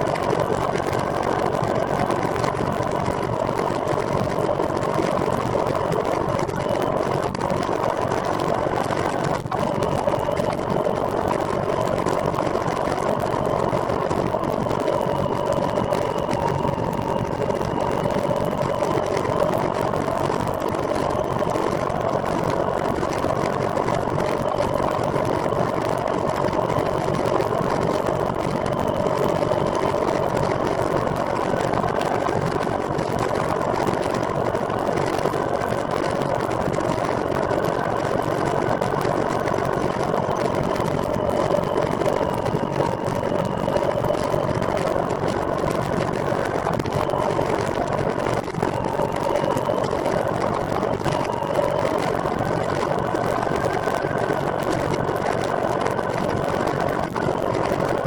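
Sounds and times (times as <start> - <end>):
constant whine: 0.0 - 58.0.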